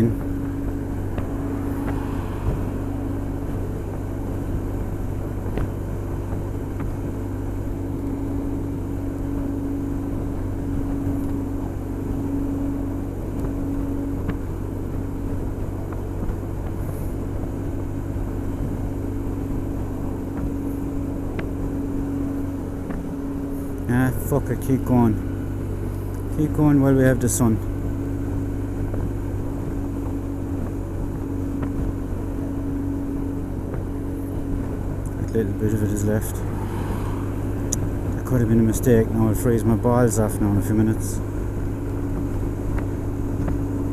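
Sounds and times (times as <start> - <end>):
scooter engine running: 0.0 - 43.9
wind and road noise: 0.0 - 43.9.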